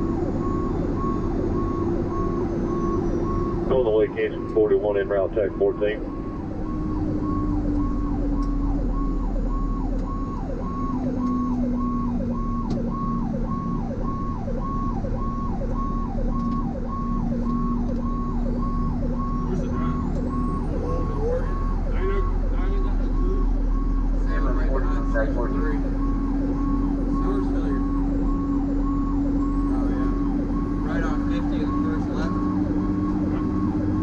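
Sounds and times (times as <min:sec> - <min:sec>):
electronic siren cycling: 0:00.0 - 0:34.0
truck engine drone: 0:00.0 - 0:34.0.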